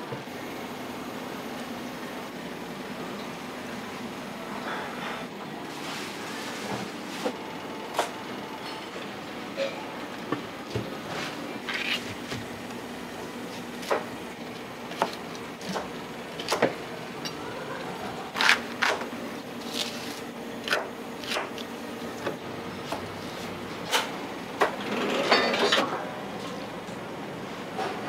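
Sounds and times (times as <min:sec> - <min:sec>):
steady low hum: 0:00.0 - 0:24.8.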